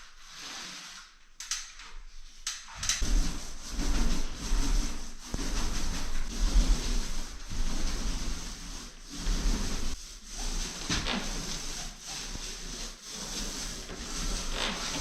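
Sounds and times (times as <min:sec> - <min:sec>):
scraping against wood: 0:02.8 - 0:15.0.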